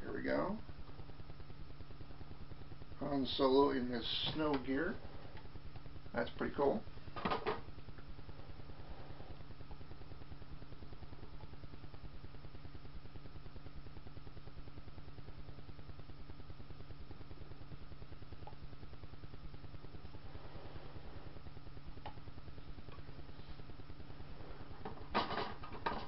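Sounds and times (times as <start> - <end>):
pulsing background hum: 0.0 - 26.0.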